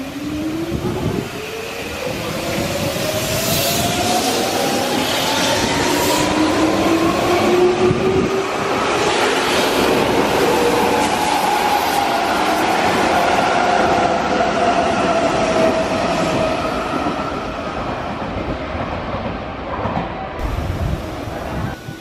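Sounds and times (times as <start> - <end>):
electric train passing with whine: 0.0 - 18.9, 19.8 - 22.0.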